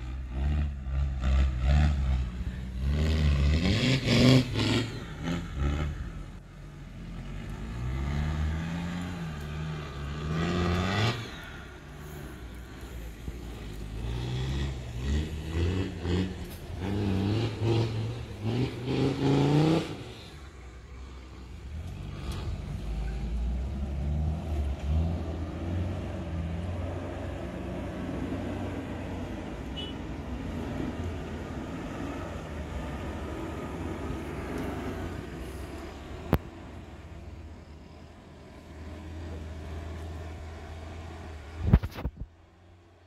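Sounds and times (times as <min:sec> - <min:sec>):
off-road vehicle engine revving: 0:00.0 - 0:42.8.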